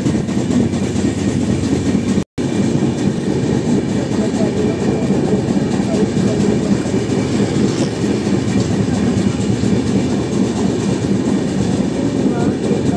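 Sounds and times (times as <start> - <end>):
coach rattling: 0.0 - 12.9
train wheels on rail: 0.0 - 12.9.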